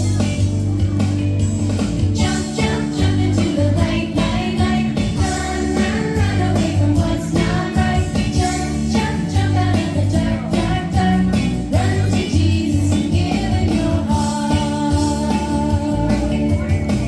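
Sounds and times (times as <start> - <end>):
upbeat song with singing: 0.0 - 17.0.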